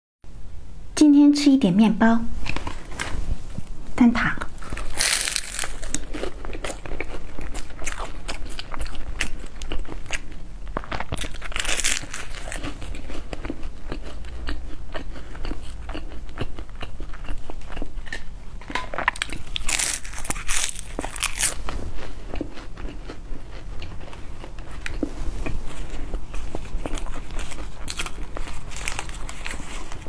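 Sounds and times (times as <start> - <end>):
crunchy pastry chewing: 4.6 - 30.0.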